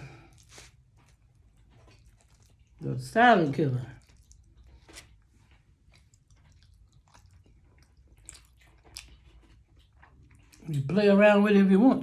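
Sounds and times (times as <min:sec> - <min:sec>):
person chewing food: 0:00.0 - 0:10.9.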